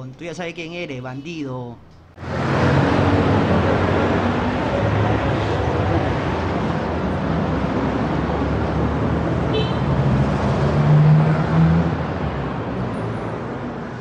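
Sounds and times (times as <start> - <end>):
vehicle engine drone: 1.9 - 14.0
passing cars: 2.1 - 14.0.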